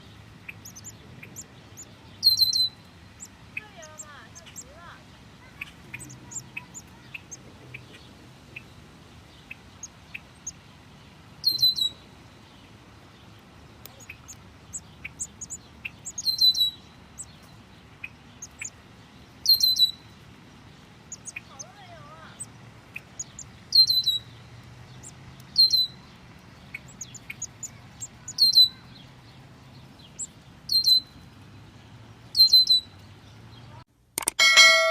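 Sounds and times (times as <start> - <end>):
bird chirping: 0.0 - 8.7, 11.4 - 33.8
nestlings peeping: 0.0 - 33.8.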